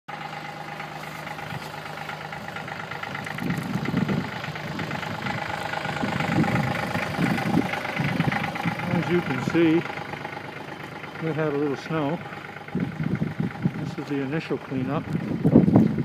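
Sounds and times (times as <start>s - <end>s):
tractor diesel engine idling: 0.1s - 16.0s
uneven low rumbling: 0.2s - 16.0s.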